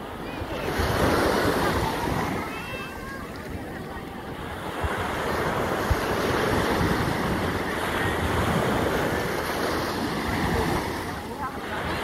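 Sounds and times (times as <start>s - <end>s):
small waves washing onto sand: 0.0s - 12.0s
wind buffeting microphone: 0.0s - 12.0s.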